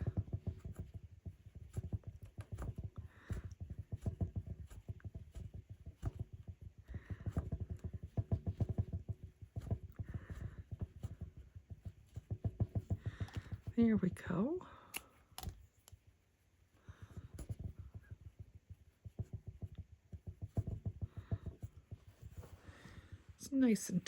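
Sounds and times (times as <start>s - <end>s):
rug hook tapping and popping: 0.0s - 24.0s.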